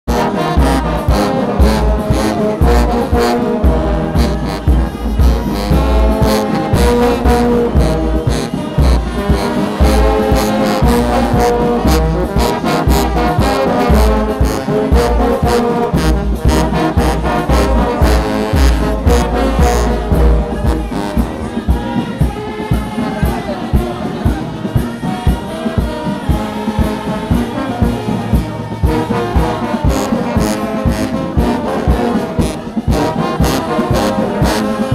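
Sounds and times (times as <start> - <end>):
brass band playing a march: 0.1 - 34.9
steady drum beat: 0.1 - 34.9.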